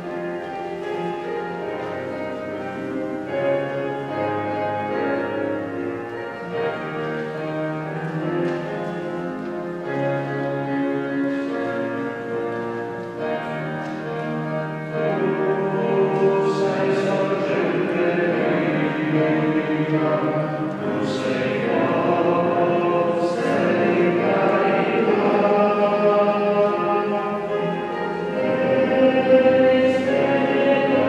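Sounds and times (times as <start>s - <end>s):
slow meditative instrumental music: 0.0s - 31.0s.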